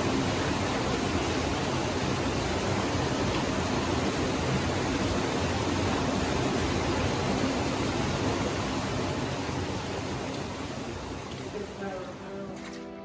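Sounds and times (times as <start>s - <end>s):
cascading water roar: 0.0s - 13.0s.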